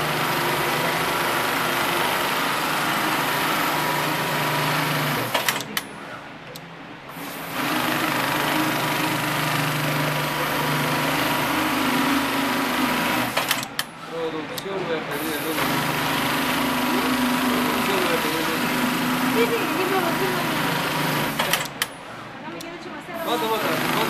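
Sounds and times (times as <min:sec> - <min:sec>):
sewing machine stitching: 0:00.0 - 0:05.8, 0:07.1 - 0:13.9, 0:15.1 - 0:21.9, 0:23.2 - 0:24.0
sewing machine clicks: 0:00.1 - 0:05.9, 0:06.5 - 0:13.9, 0:15.5 - 0:22.0.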